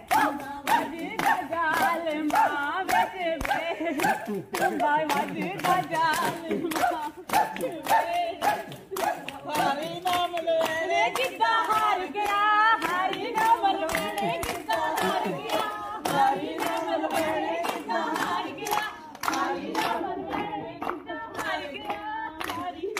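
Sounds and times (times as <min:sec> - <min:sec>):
hand-clapping: 0:00.0 - 0:22.9
women singing in unison: 0:00.0 - 0:22.9.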